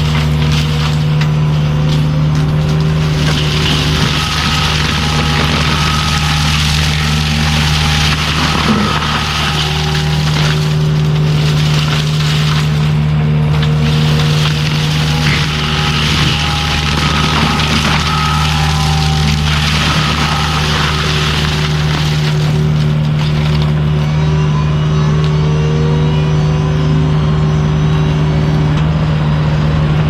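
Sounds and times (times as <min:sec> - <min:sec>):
diesel engine running: 0:00.0 - 0:30.0
faint high whine: 0:00.0 - 0:30.0.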